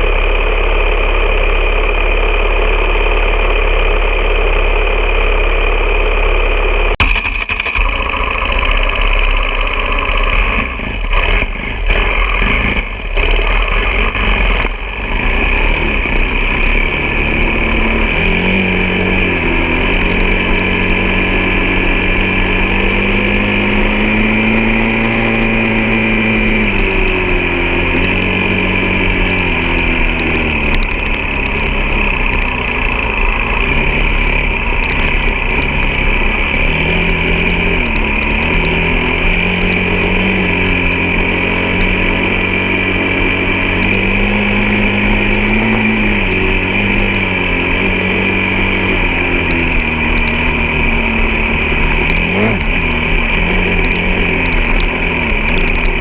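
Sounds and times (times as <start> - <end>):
steady high whine: 0.0 - 56.0
vehicle engine driving: 0.0 - 56.0.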